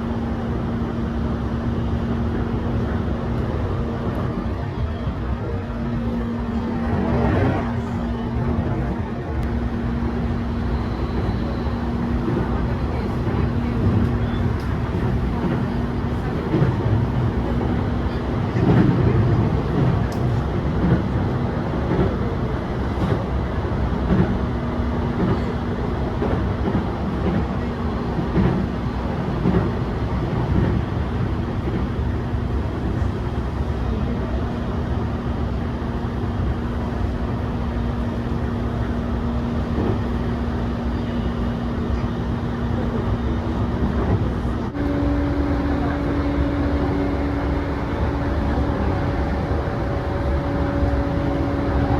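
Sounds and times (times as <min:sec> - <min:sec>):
train wheels on rail: 0:00.0 - 0:51.9.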